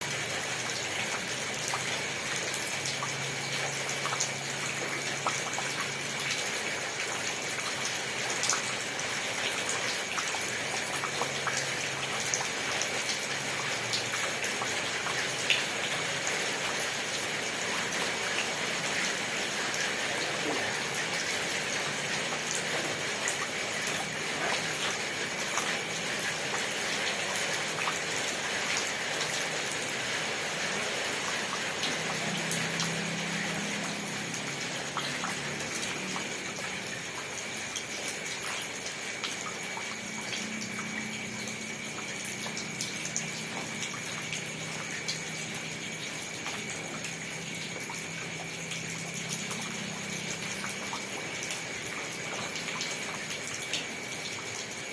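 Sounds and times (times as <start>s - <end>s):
rain drops pattering: 0.0s - 54.9s.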